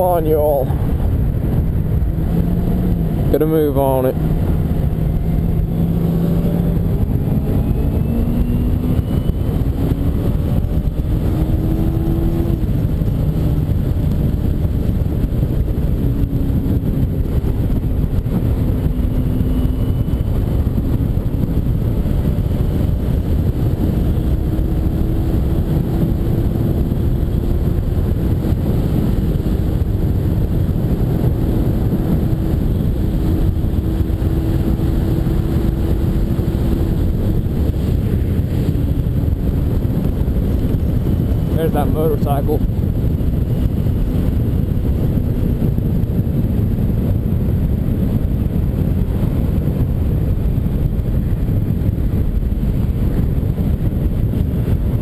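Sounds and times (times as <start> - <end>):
motorcycle engine accelerating: 0.0 - 55.0
wind noise: 0.0 - 55.0.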